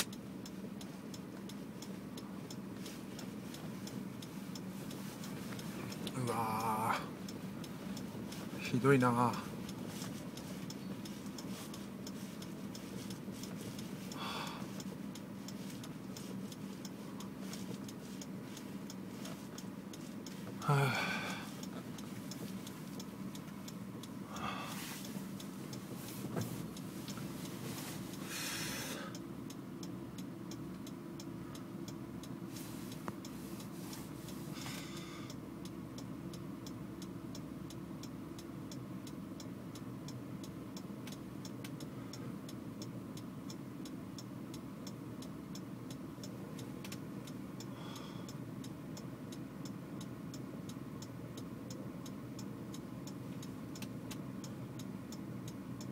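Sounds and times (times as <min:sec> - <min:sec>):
car engine idling: 0:00.0 - 0:55.9
indicator relay ticking: 0:00.0 - 0:55.9.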